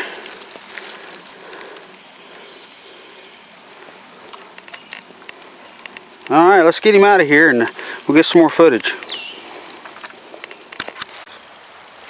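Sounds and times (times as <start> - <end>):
even outdoor hiss: 0.0 - 12.0
light crackles and ticks: 0.0 - 12.0.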